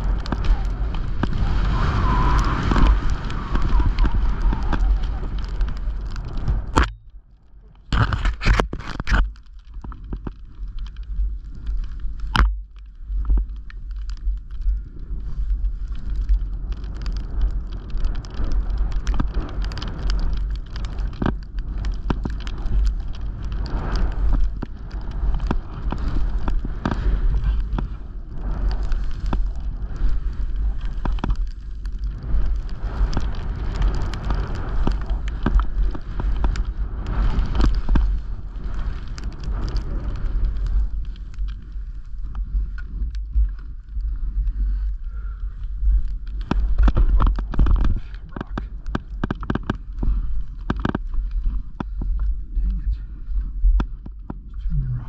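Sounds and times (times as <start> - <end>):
crackles and knocks: 0.0 - 55.0
wind rumble on microphone: 0.0 - 55.0.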